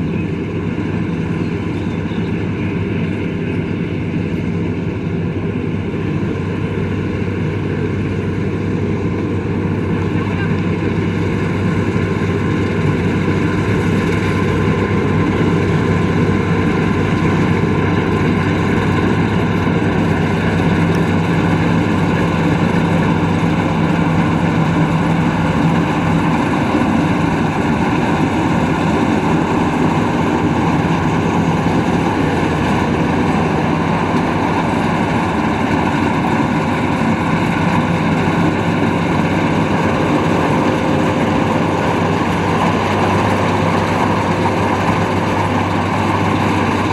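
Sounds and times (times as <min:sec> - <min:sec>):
combine harvester running: 0:00.0 - 0:46.9.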